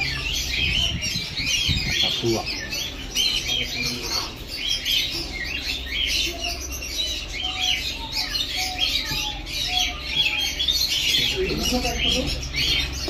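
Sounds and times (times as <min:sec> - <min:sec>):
cage birds chirping and squawking: 0:00.0 - 0:13.0.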